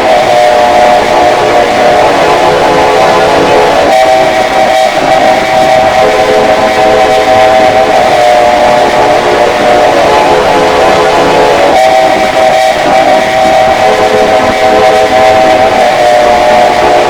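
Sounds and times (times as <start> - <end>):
sustained horn-like chord: 0.0 - 17.0.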